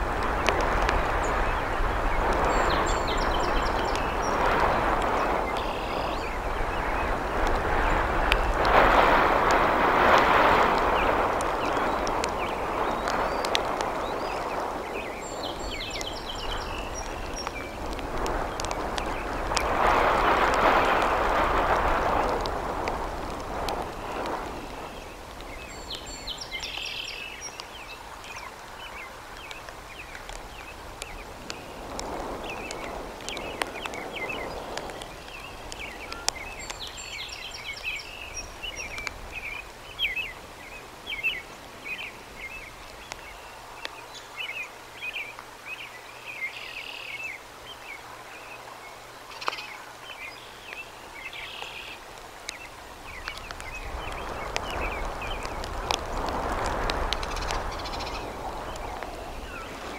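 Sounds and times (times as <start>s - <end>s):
birds chirping: 0.0s - 8.8s, 10.7s - 22.4s, 23.1s - 59.9s
steady background hiss: 0.0s - 59.9s.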